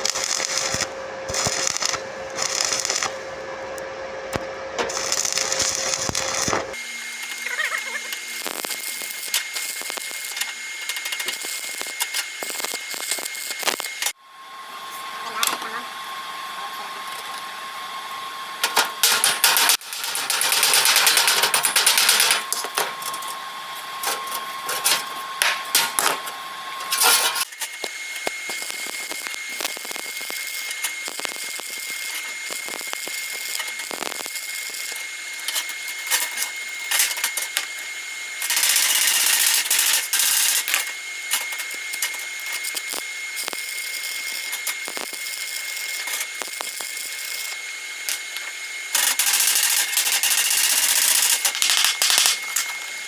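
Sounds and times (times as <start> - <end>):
welding arc crackling: 0.0 - 14.2, 18.6 - 53.0.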